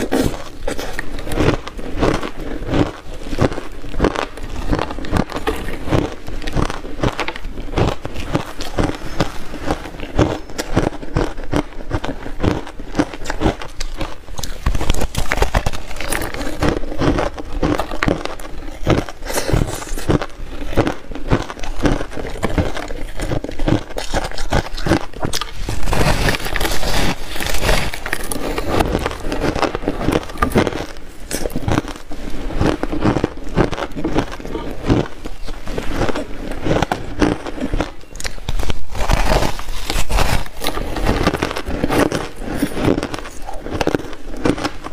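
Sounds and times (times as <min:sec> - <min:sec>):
crunchy ice chewing: 0:00.0 - 0:44.9.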